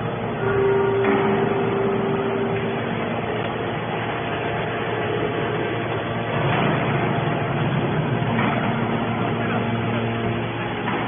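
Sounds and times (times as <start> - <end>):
machine mechanical drone: 0.0 - 11.0.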